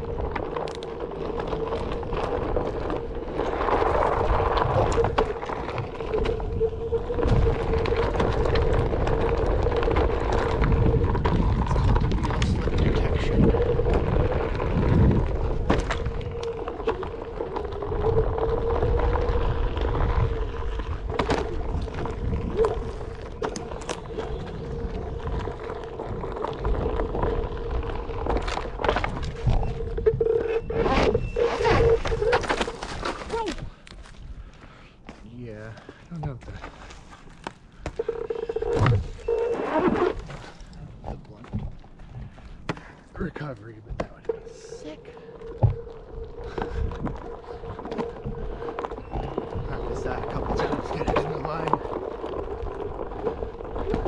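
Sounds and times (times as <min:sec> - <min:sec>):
wheels clicking and knocking: 0:00.0 - 0:33.8, 0:35.8 - 0:54.0
wind on microphone: 0:00.0 - 0:34.5, 0:44.3 - 0:54.0
board rolling on dirt trail: 0:00.0 - 0:54.0.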